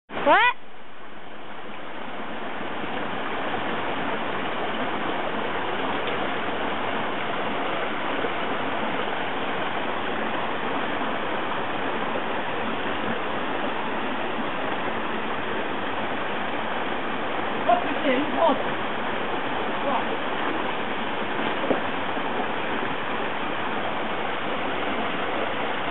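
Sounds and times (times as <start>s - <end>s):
waterfall pouring into a pool: 1.3s - 25.9s.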